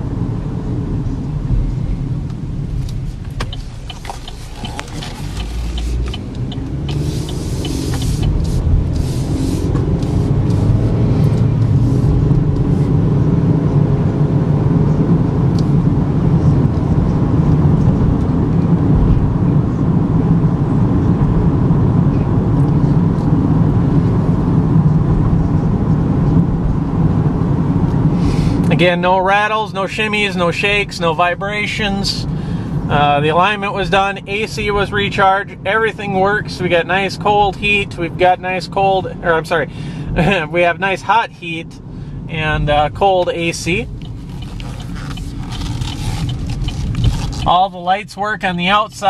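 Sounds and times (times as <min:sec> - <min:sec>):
car engine accelerating: 0:00.0 - 0:41.0, 0:41.6 - 0:47.9
road noise from tyres: 0:00.0 - 0:49.0.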